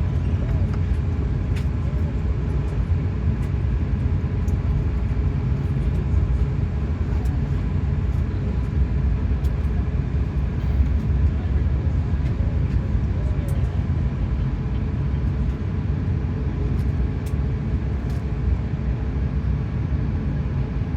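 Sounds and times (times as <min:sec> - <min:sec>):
airliner cabin rumble: 0:00.0 - 0:20.9.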